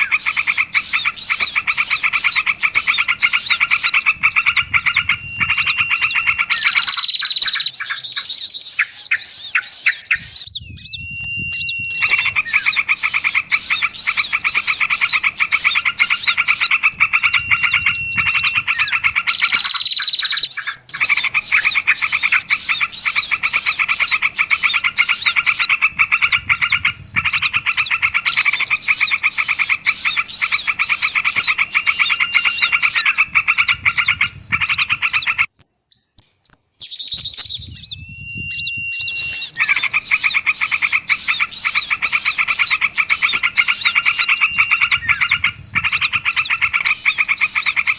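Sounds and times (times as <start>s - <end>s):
songbirds chirping and trilling: 0.0s - 47.9s.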